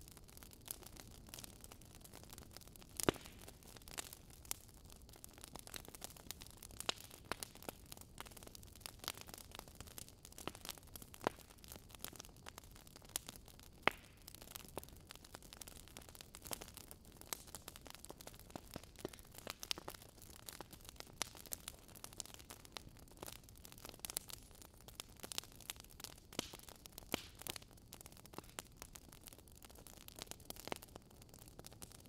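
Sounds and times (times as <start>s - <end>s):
faint steady hiss: 0.0s - 32.0s
wood fire crackling: 0.0s - 32.0s.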